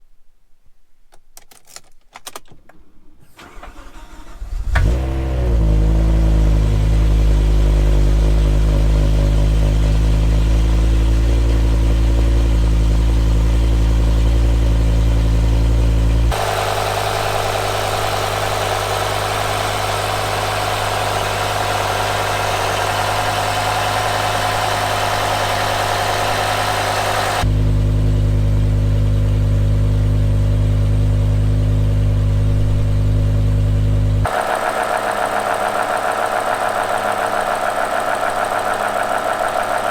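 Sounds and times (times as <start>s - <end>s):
car engine starting and idling: 2.2s - 39.9s.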